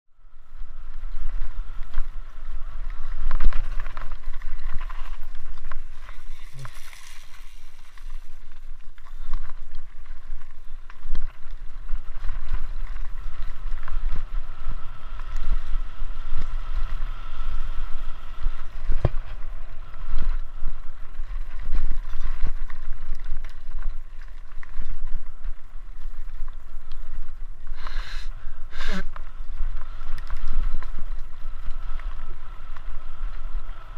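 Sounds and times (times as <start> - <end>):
bike tyres rumbling on gravel: 0.1 - 33.9
bike rattling and knocking: 0.7 - 28.0.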